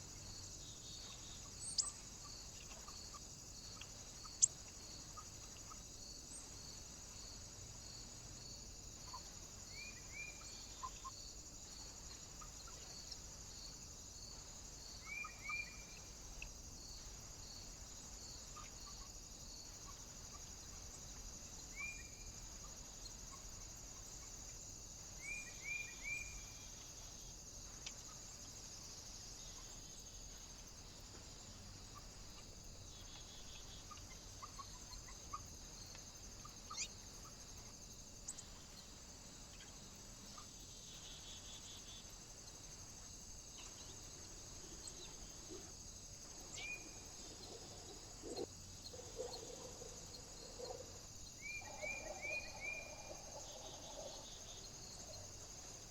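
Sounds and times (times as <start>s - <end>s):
small birds chirping: 0.0s - 55.9s
steady high hiss: 0.0s - 55.9s.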